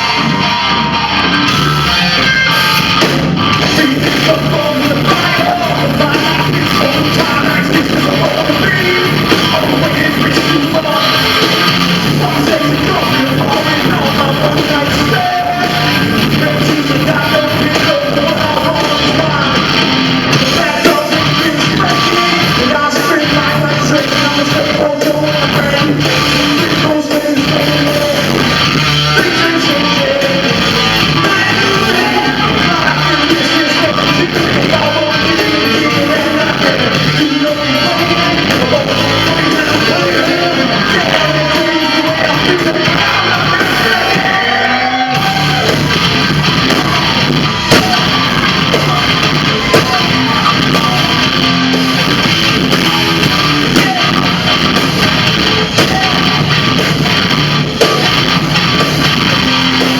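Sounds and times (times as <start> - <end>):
guitars: 0.0 - 59.9
live rock band playing: 0.0 - 59.9
sung and yelled vocals: 0.0 - 59.9.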